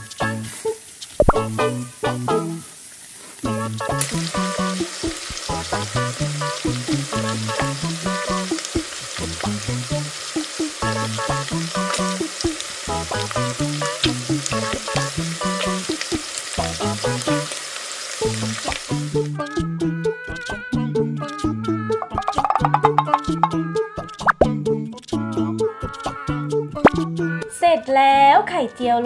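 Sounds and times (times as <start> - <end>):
bouncy background music: 0.0 - 2.6, 3.4 - 17.6, 18.2 - 29.0
frying sizzle with crackles: 0.0 - 23.6.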